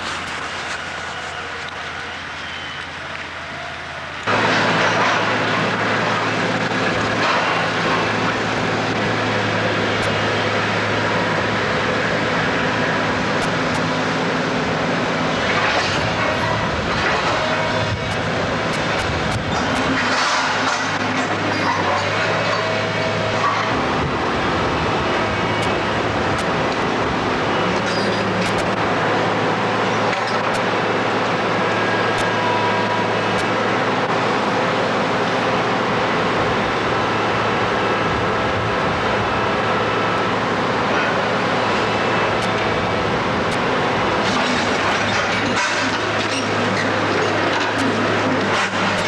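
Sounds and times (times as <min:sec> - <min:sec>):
demolition machinery engine hum: 0:00.0 - 0:49.0.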